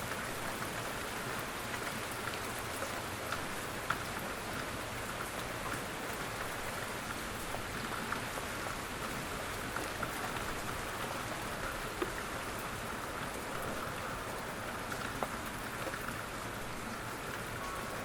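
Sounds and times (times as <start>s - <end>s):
light rain pattering: 0.0s - 18.0s
raindrops ticking on a surface: 0.0s - 18.0s.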